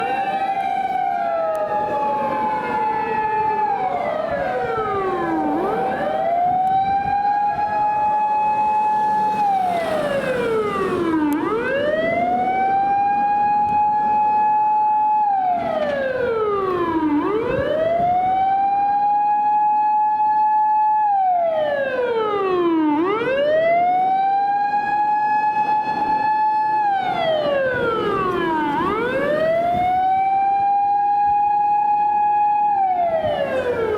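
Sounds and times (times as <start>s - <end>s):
second siren: 0.0s - 33.9s
siren wailing slowly: 0.0s - 33.9s.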